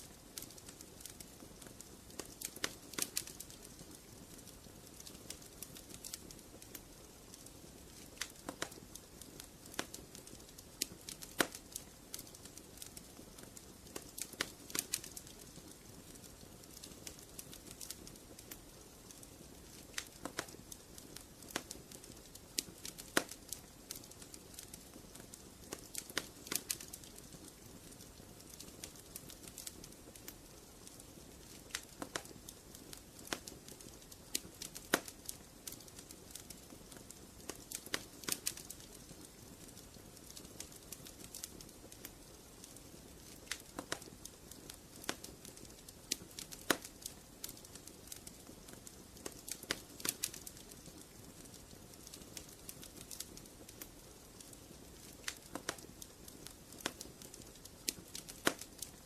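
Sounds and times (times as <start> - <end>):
fire popping and snapping: 0.0 - 59.0
wood fire crackling: 0.0 - 59.0.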